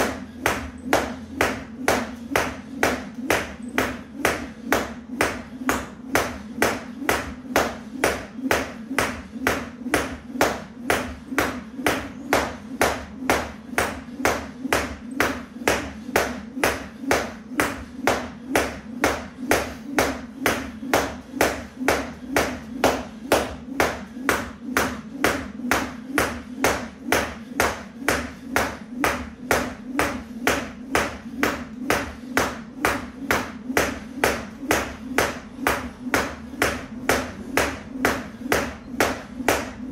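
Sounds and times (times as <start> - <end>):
jump rope slapping mat: 0.0 - 39.9.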